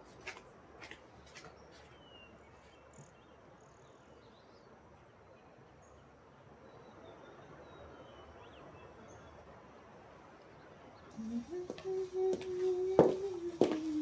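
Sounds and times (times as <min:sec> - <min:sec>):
soft steady hiss: 0:00.0 - 0:14.0.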